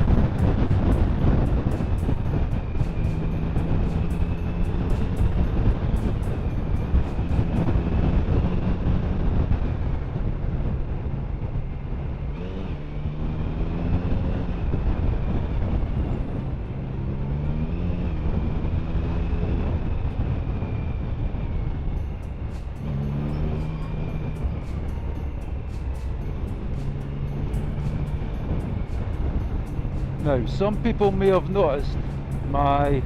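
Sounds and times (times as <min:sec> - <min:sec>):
car engine hum: 0:00.0 - 0:33.0
road noise inside car: 0:00.0 - 0:33.0.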